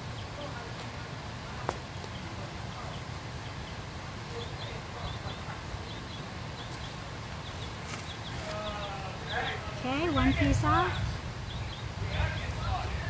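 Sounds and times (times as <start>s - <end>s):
bird chirping: 0.0s - 0.7s, 1.8s - 13.0s
outdoor background noise: 0.0s - 13.0s.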